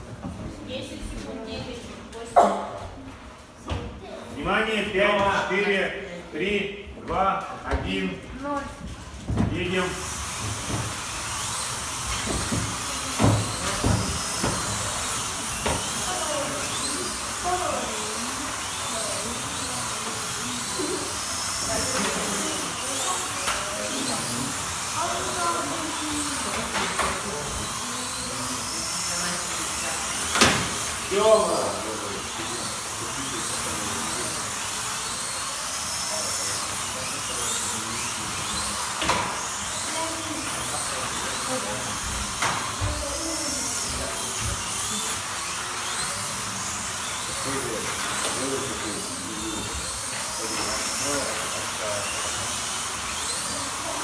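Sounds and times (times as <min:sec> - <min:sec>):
slot car motors whining: 0:08.3 - 0:54.0.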